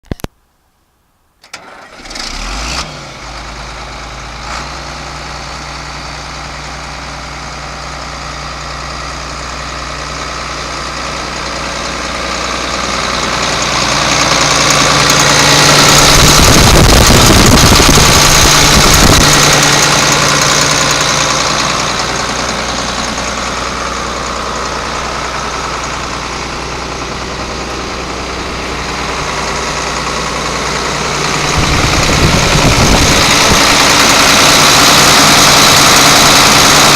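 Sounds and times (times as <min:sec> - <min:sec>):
diesel tractor engine idling: 0:01.5 - 0:36.9.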